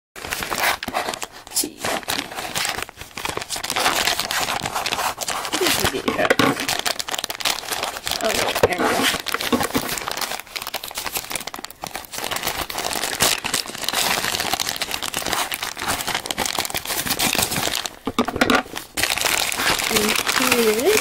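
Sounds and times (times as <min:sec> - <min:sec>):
plastic bag crinkling: 0:00.2 - 0:21.0.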